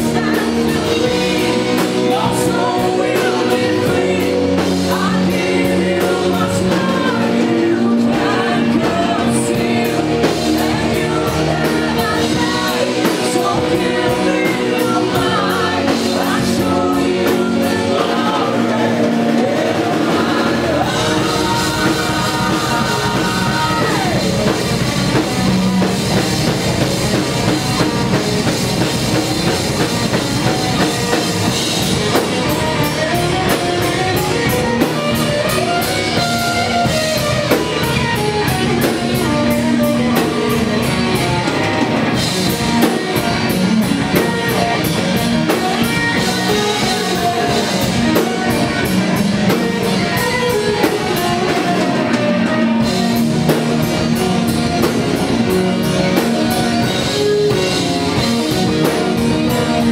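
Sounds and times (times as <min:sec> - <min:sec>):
drum kit beat: 0:00.0 - 0:59.9
electric guitar: 0:00.0 - 0:59.9
live rock band playing: 0:00.0 - 0:59.9.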